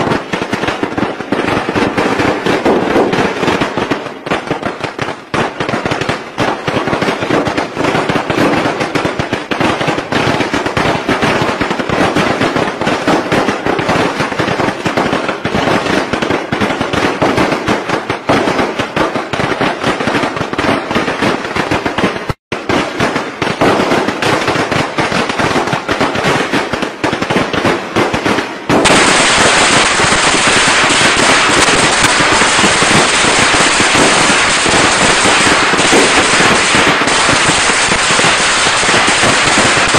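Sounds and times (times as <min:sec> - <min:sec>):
firecrackers banging rapidly: 0:00.0 - 0:39.9.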